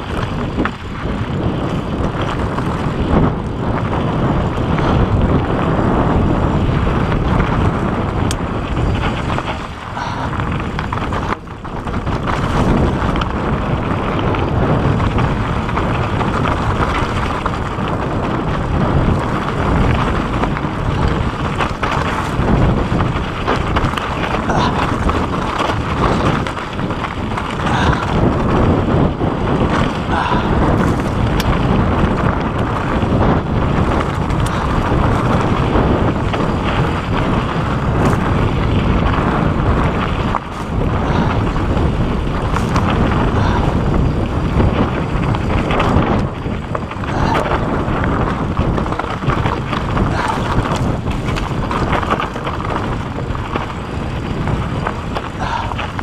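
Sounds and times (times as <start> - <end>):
wind noise on microphone: 0.0 - 56.0
tyres crunching through gravel: 0.1 - 56.0
bike clattering over rocks: 6.9 - 56.0.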